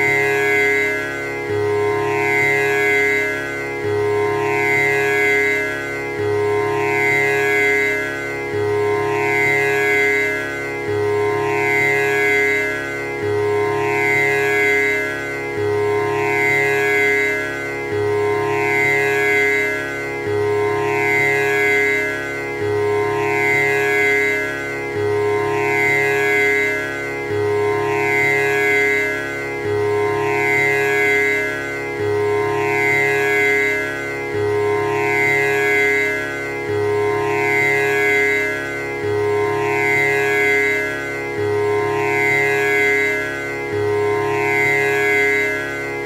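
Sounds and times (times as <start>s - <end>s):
tanpura drone: 0.0s - 46.0s.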